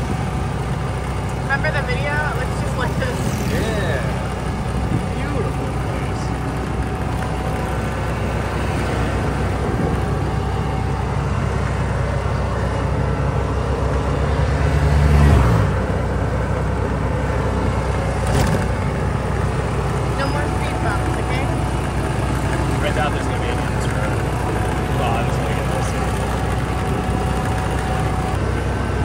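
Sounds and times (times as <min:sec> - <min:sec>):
motor running: 0:00.0 - 0:12.9, 0:17.9 - 0:29.0.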